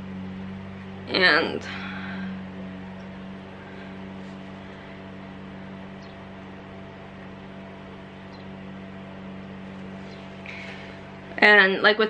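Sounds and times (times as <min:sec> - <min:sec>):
lawn mower engine running: 0:00.0 - 0:11.6.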